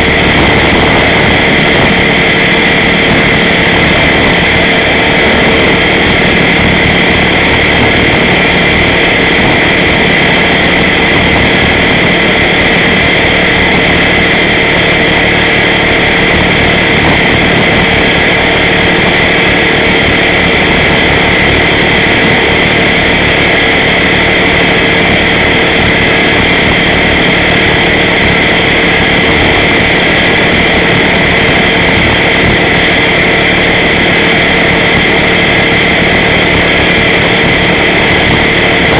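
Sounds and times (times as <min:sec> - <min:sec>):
rc helicopter whining and buzzing: 0:00.0 - 0:38.9.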